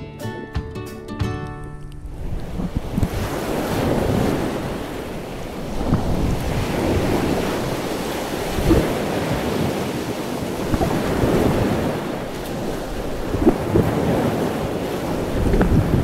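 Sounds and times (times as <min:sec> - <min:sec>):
water churning underwater: 0:02.2 - 0:16.0
sharp splashes: 0:02.4 - 0:16.0.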